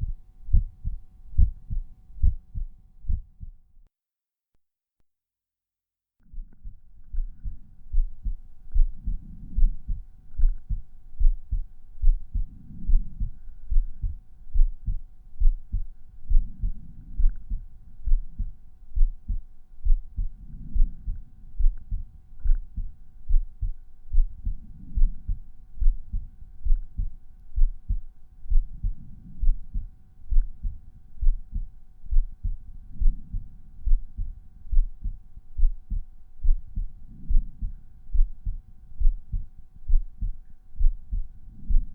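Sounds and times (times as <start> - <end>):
heartbeat through stethoscope: 0.0 - 3.7, 6.3 - 41.9
faint steady hum: 0.0 - 3.9, 6.2 - 41.9.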